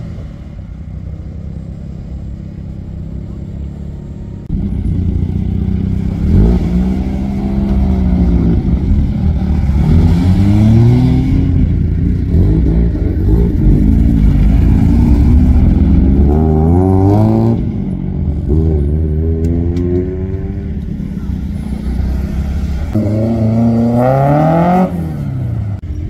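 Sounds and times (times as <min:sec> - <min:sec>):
low engine rumble: 0:00.0 - 0:23.6
rotary engines revving: 0:01.2 - 0:26.0.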